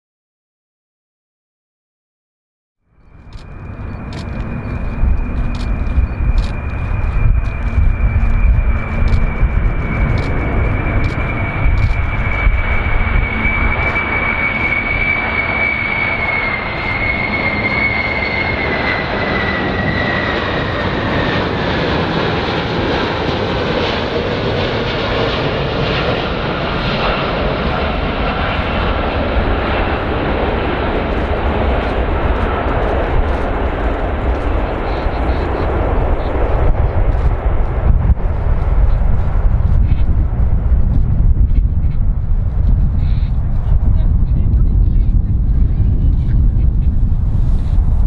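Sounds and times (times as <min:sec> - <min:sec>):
high engine whine: 0:02.9 - 0:48.0
jet engines roaring: 0:03.0 - 0:48.0.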